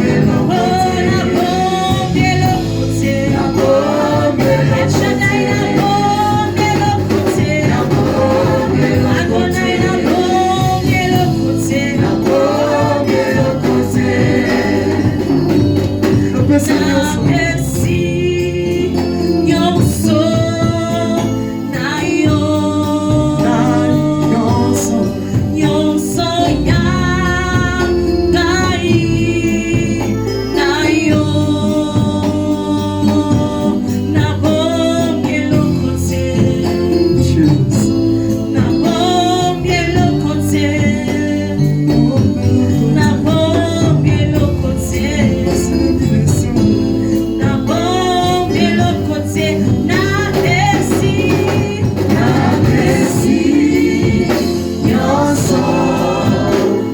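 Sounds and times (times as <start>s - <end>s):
band with steady beat: 0.0s - 56.9s
gospel singing: 0.0s - 56.9s.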